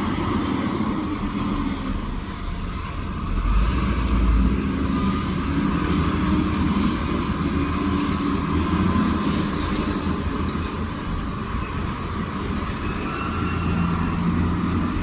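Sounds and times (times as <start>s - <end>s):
diesel machinery engine rumble: 0.0s - 15.0s
faint high whine: 0.0s - 15.0s.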